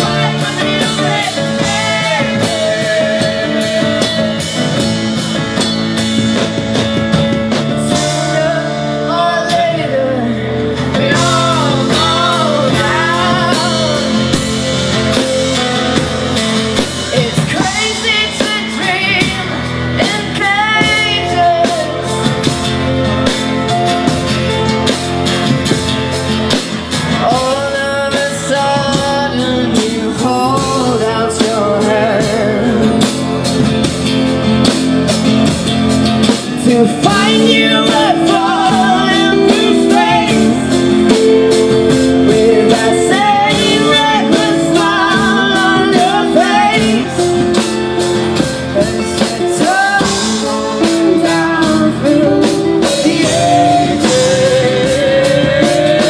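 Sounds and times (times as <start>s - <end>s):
person singing: 0.0s - 5.0s, 7.6s - 24.2s, 27.1s - 33.6s, 36.3s - 56.0s
drum kit with cymbals: 0.0s - 56.0s
electric guitar: 0.0s - 56.0s
strummed acoustic guitar: 0.0s - 56.0s.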